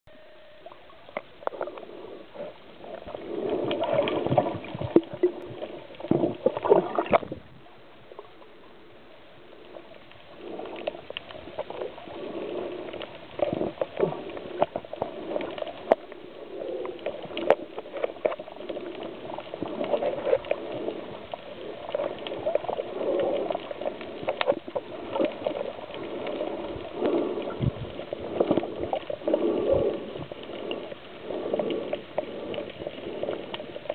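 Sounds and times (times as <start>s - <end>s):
underwater bubbling and gurgling: 0.1s - 33.9s.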